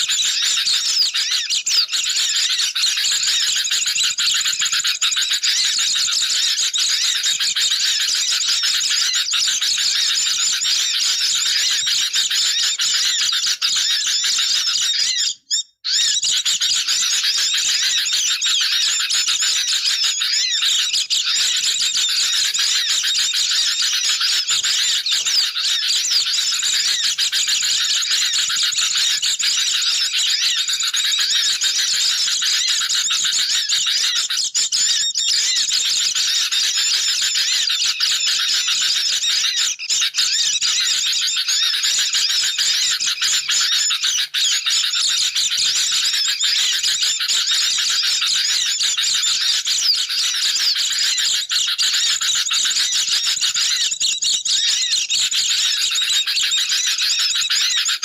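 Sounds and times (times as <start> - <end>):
birds chattering and trilling: 0.0 - 58.0.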